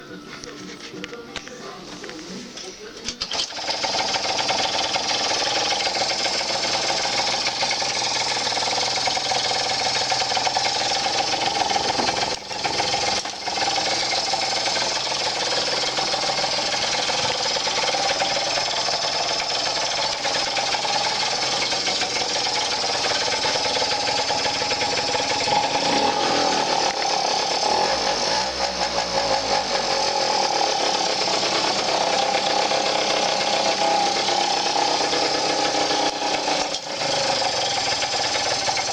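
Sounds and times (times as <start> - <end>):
small engine running: 3.3 - 38.9.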